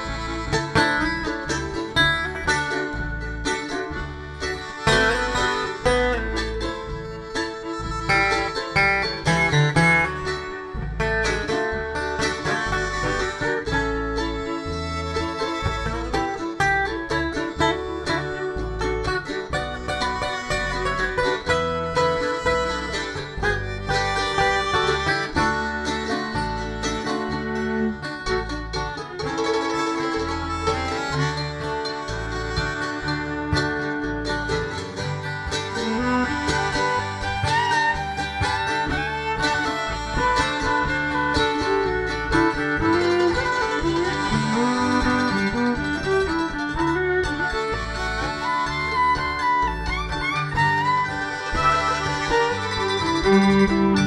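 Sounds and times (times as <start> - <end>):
plucked strings accompaniment: 0.0 - 54.0
sliding string melody: 0.0 - 54.0.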